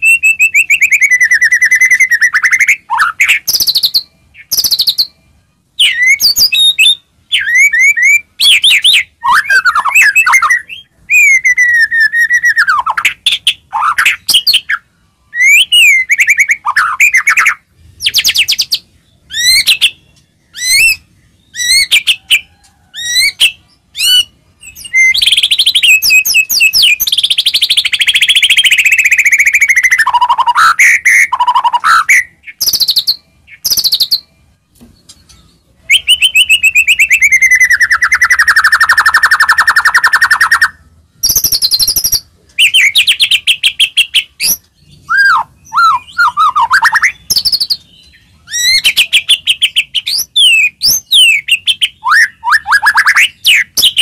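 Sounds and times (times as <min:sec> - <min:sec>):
bird whistling song: 0:00.0 - 0:54.0.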